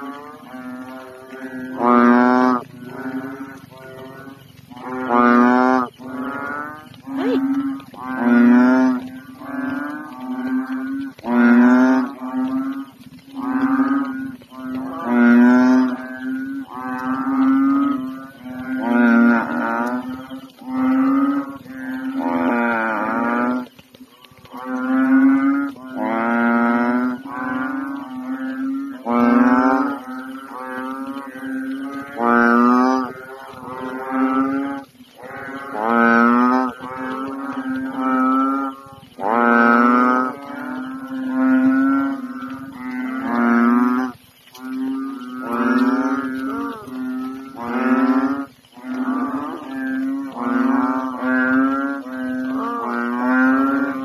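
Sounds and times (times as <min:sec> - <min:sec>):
frogs moaning calls: 0:00.0 - 0:54.0.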